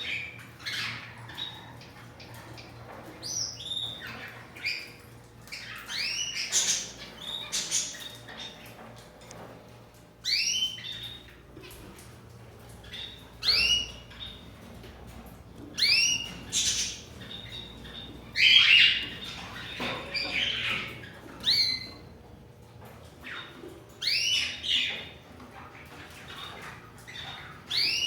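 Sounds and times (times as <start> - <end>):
pet birds squawking: 0.0 - 9.0, 10.2 - 22.2, 22.8 - 28.0.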